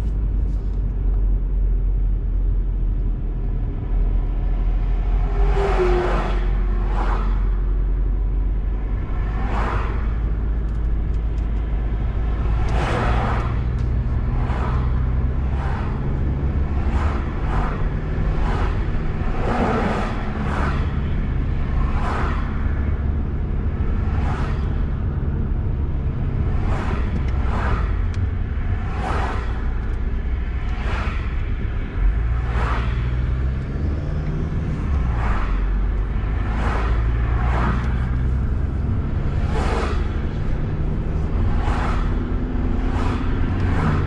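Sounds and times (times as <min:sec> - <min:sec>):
low engine rumble: 0:00.0 - 0:44.0
vehicles whooshing past: 0:03.5 - 0:44.0.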